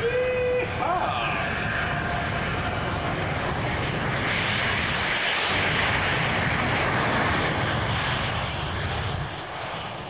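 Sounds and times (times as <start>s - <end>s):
loud engine roar: 0.6s - 10.0s.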